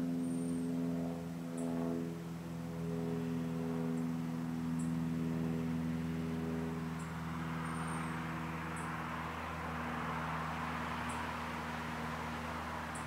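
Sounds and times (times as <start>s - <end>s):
passing vehicle road hiss: 1.2s - 13.0s.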